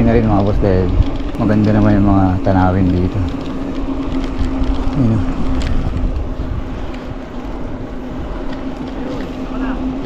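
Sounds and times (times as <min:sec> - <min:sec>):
road and wind noise: 0:00.0 - 0:10.0
steady hum: 0:00.0 - 0:10.0.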